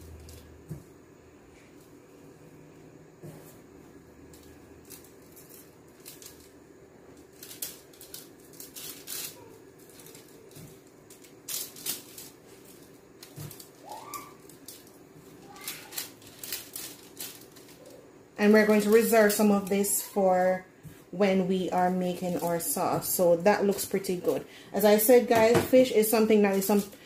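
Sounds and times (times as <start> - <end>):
faint steady hum: 0.0 - 27.0
seasoning sprinkled on foil: 4.2 - 20.6, 21.2 - 27.0.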